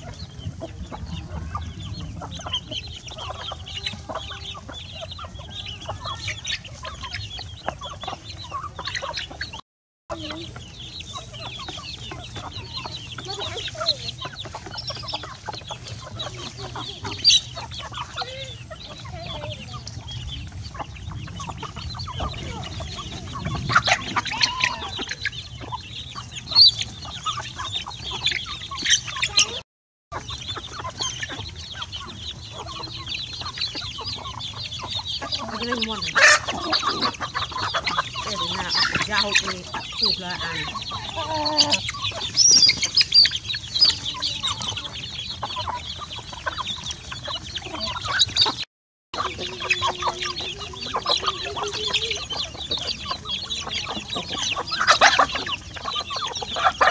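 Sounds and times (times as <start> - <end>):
chickens clucking: 0.0 - 56.9
chicks peeping: 0.0 - 56.9.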